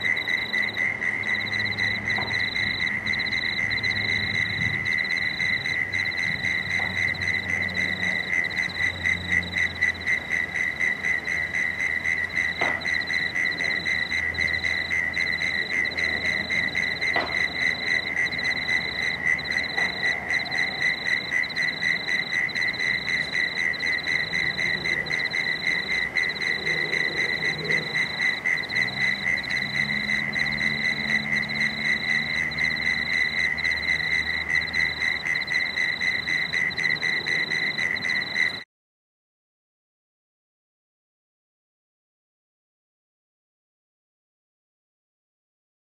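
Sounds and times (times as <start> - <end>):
frogs calling in chorus: 0.0 - 38.6.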